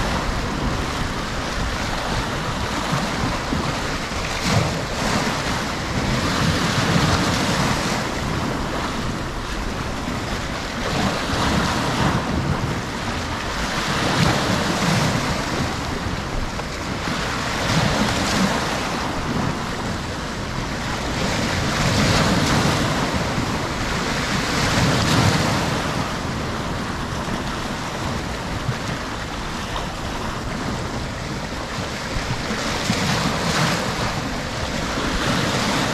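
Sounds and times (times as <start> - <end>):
waves breaking on rocks: 0.0 - 35.9.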